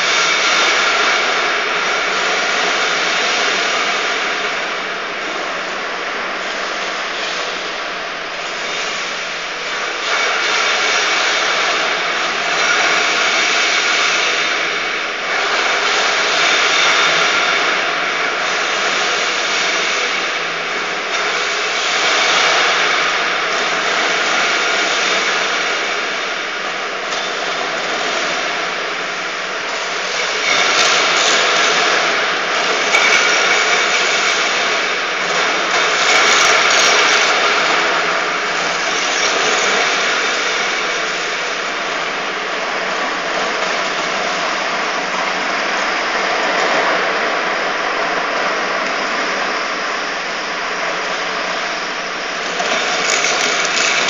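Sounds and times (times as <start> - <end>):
faint steady whine: 0.0 - 54.0
floor grinding machine running: 0.0 - 54.0.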